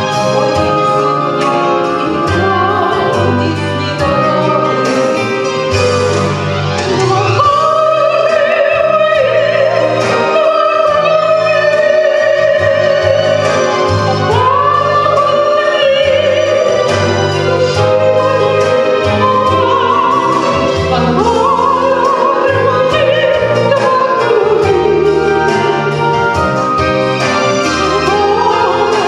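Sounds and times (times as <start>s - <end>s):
instrumental accompaniment with bass: 0.0s - 29.0s
woman singing with vibrato: 0.0s - 29.0s.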